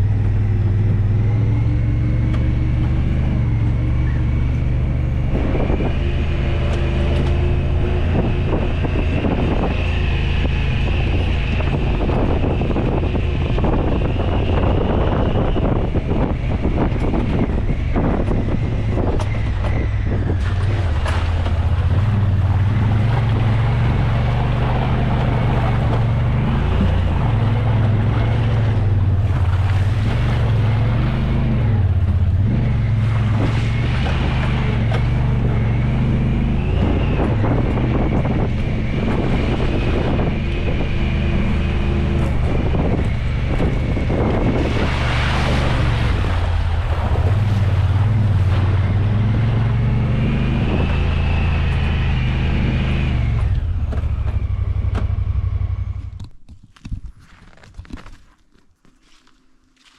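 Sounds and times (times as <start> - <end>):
vehicle engine droning: 0.0 - 56.5
road and wind noise: 0.0 - 59.9.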